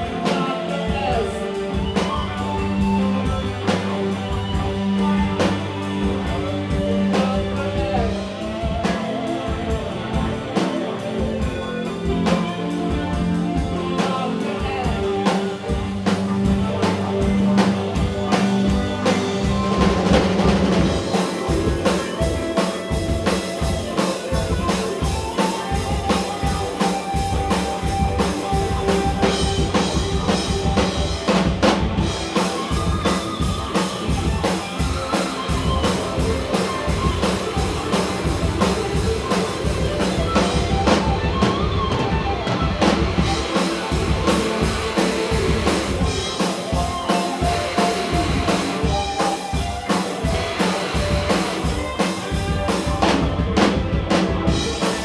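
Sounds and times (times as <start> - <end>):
drum kit beat: 0.0 - 55.0
live band playing: 0.0 - 55.0.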